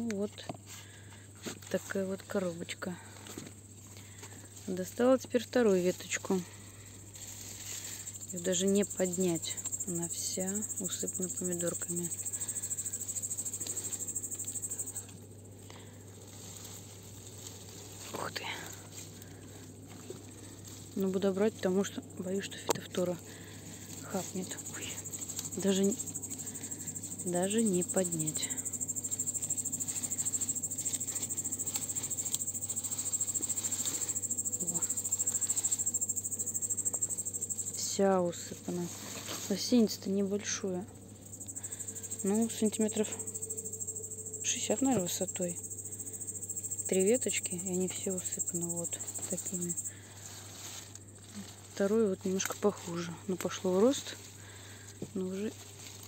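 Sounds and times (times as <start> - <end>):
cricket trilling: 2.0 - 56.0.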